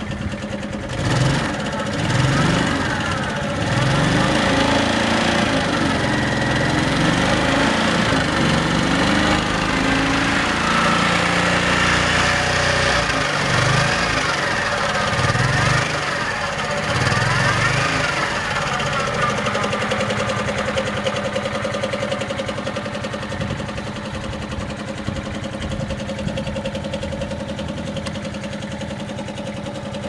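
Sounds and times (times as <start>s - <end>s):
scooter engine revving: 0.0s - 30.0s.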